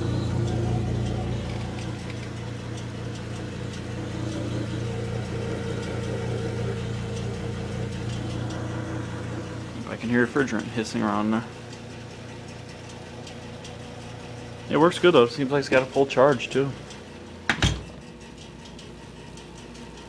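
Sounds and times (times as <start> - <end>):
cooling fans whirring: 0.0 - 20.0
refrigerator compressor humming: 0.0 - 20.0.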